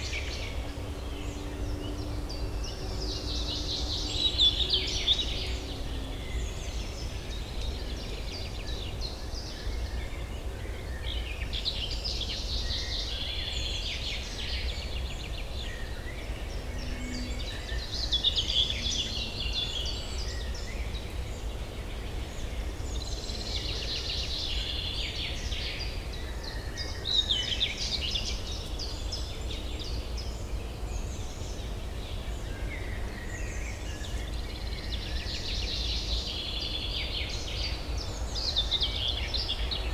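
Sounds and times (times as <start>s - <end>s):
low urban hum: 0.0s - 39.9s
songbirds chirping: 0.0s - 39.9s.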